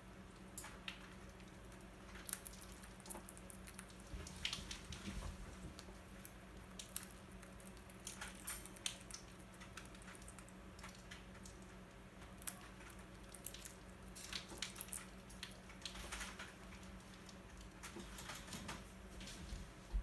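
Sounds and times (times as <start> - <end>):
parakeet beak crunching food: 0.2 - 18.9.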